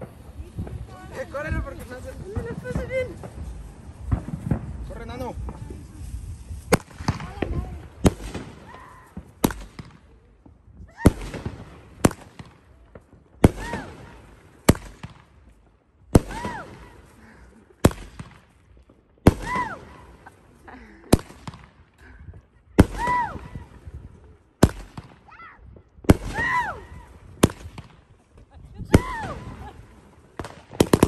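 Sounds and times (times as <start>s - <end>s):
firework bangs: 0.0s - 31.0s
fireworks crackling: 0.0s - 31.0s.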